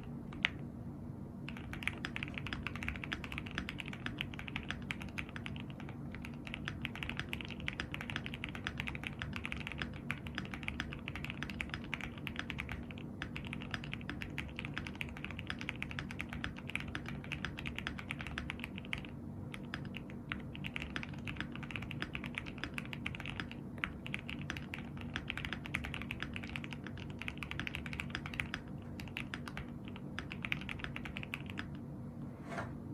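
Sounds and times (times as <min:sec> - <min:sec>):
mechanical keyboard typing: 0:00.0 - 0:00.6, 0:01.5 - 0:31.8.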